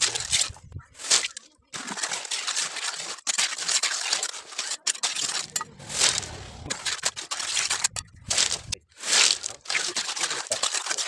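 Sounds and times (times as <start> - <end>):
trowel scraping wet concrete: 0.0 - 11.0.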